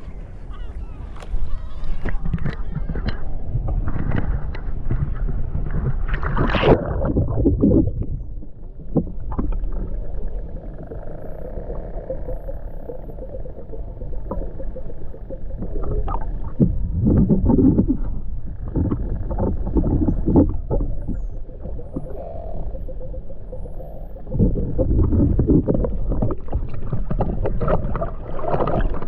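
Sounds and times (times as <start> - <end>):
low rumble: 0.0 - 29.0
sea water sloshing and splashing: 0.0 - 29.0.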